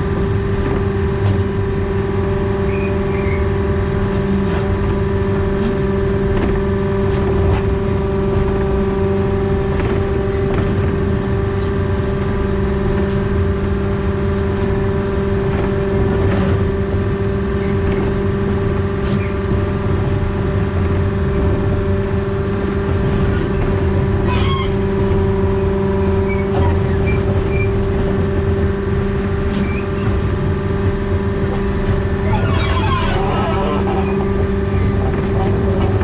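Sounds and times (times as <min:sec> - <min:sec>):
locomotive diesel engine droning: 0:00.0 - 0:36.0.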